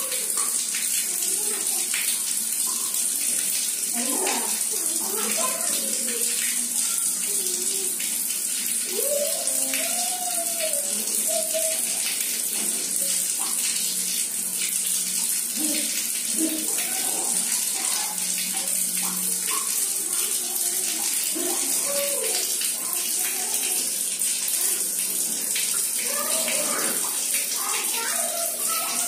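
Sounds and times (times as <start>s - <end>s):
tap water splashing on tiles: 0.0s - 29.0s.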